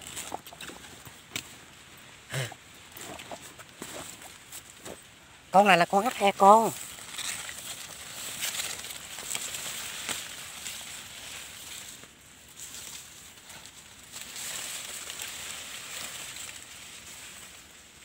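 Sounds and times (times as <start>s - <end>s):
footsteps in dry grass and leaves: 0.0s - 2.2s, 2.8s - 18.0s.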